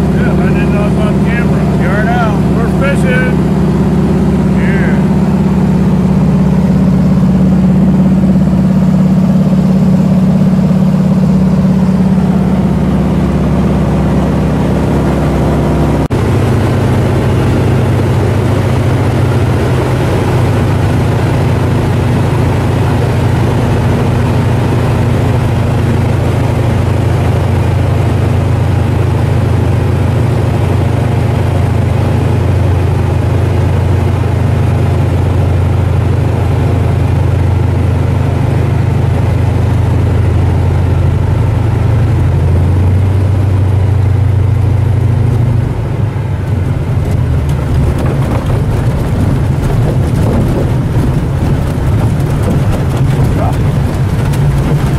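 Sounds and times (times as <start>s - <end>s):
propeller plane engine drone: 0.0s - 54.9s.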